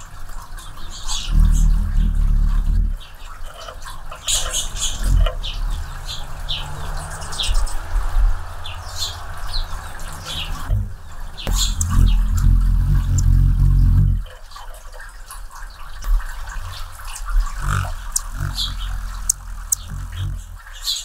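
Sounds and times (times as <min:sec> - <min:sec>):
hummingbird wings humming: 0:00.0 - 0:14.7, 0:16.0 - 0:21.0.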